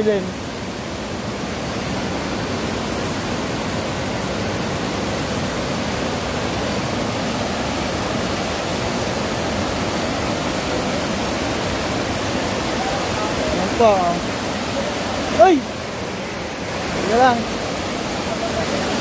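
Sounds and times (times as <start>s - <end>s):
waterfall over rocks: 0.0s - 19.0s.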